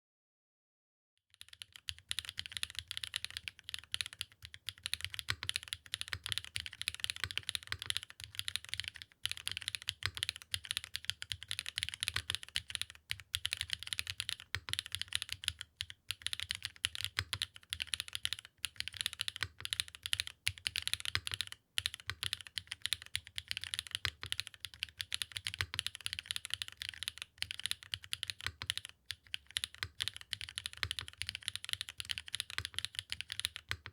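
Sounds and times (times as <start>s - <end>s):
mechanical keyboard typing: 1.4s - 33.9s.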